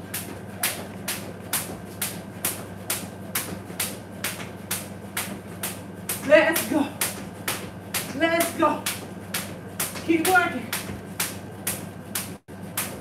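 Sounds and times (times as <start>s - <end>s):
jump rope slapping tiled floor: 0.0s - 13.0s.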